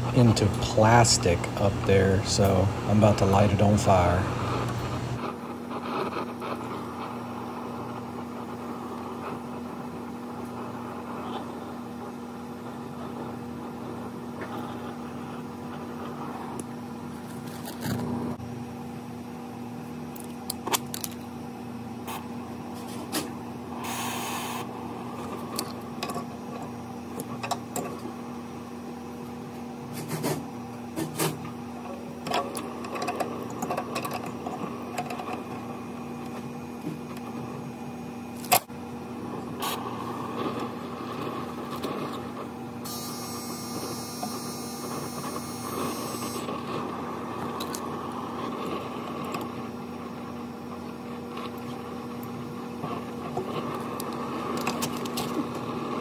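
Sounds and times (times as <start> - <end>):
torch flame hissing: 0.0 - 18.5, 21.8 - 56.0.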